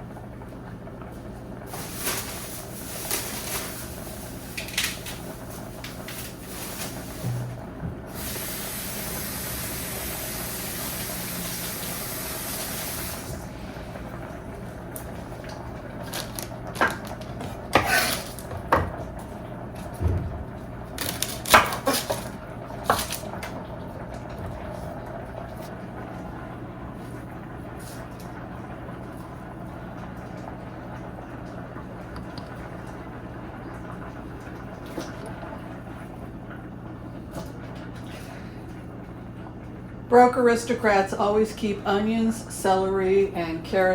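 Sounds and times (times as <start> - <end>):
water running from tap: 0.9 - 41.5.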